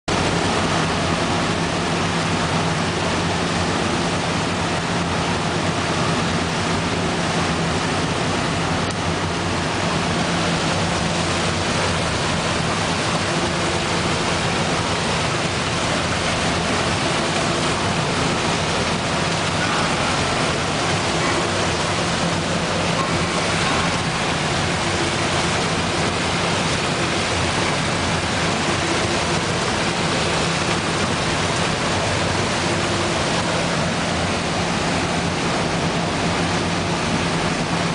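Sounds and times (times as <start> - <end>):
low machinery hum: 0.1 - 37.9.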